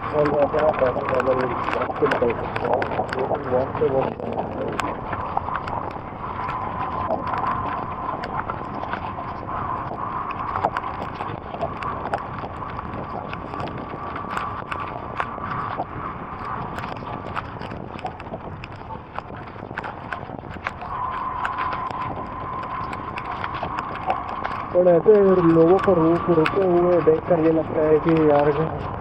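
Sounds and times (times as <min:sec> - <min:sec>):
raindrop impacts: 0:00.0 - 0:29.0.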